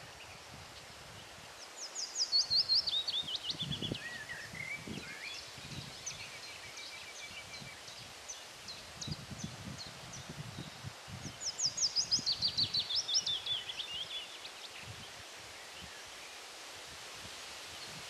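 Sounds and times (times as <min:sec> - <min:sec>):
songbird singing: 0:00.0 - 0:16.5
rustling leaves: 0:00.0 - 0:18.0
wind: 0:00.0 - 0:18.0.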